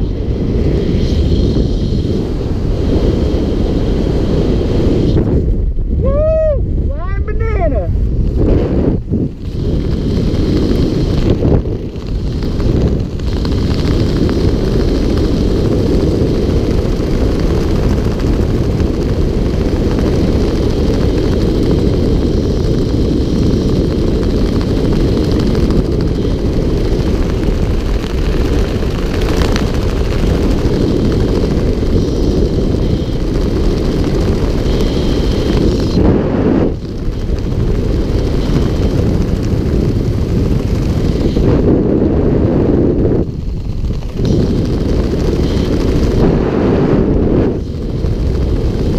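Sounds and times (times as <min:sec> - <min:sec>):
wind rumbling over microphone: 0:00.0 - 0:48.9.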